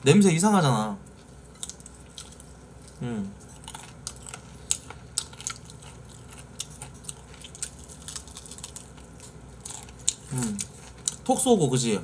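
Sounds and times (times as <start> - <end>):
chewing pizza with mouth clicks: 1.1 - 11.3.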